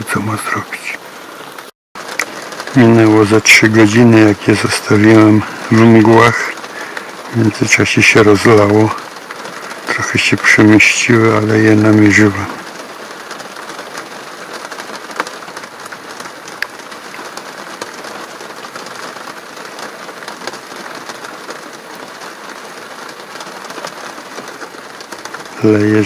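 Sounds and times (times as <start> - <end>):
heavy rain pouring: 0.0 - 26.0
loud raindrops: 0.0 - 26.0.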